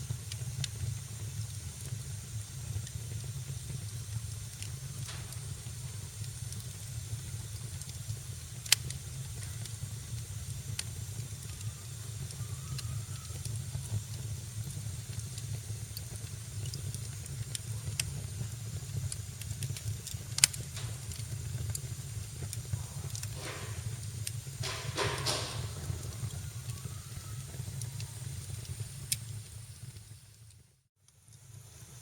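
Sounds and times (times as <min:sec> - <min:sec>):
fire crackling and popping: 0:00.0 - 0:32.0
fire hissing: 0:00.0 - 0:32.0.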